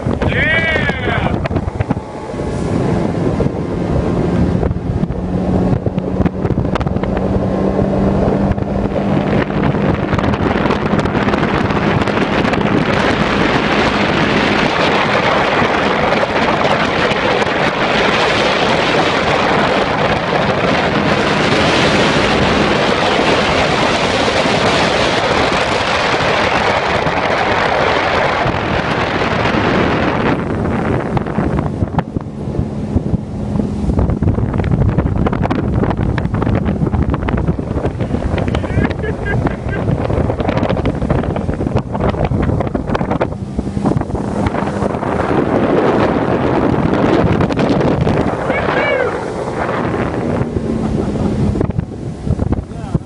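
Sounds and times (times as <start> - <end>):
outboard motor running: 0.0 - 53.0
water rushing past hull: 0.0 - 53.0
wind rushing over microphone: 0.0 - 53.0.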